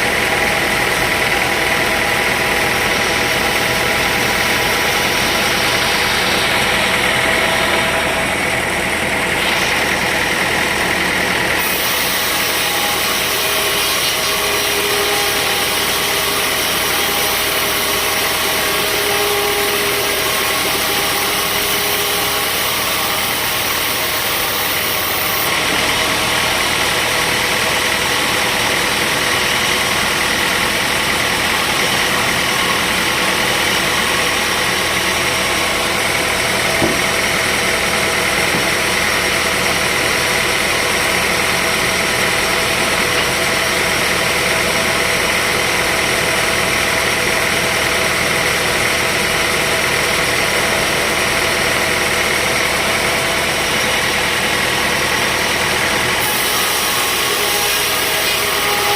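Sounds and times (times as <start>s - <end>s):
sawmill machinery droning: 0.0s - 58.9s.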